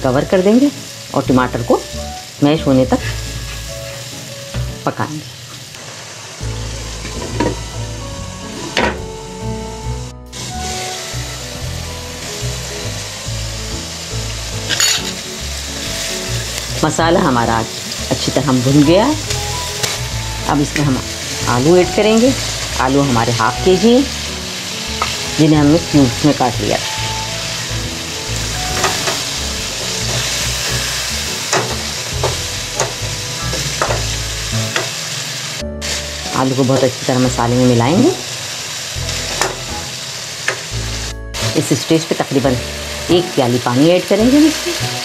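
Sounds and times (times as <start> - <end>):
masala sizzling in oil: 0.0 - 45.0.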